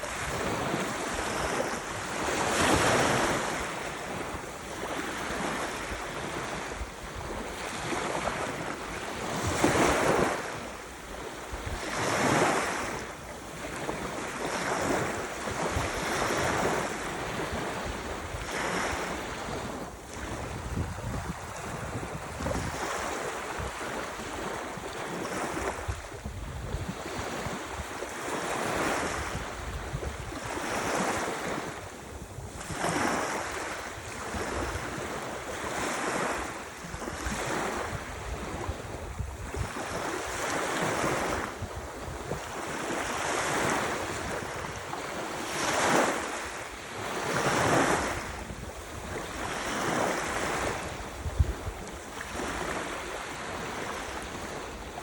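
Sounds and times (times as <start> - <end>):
ocean waves breaking: 0.0 - 55.0
wind on microphone: 0.0 - 55.0.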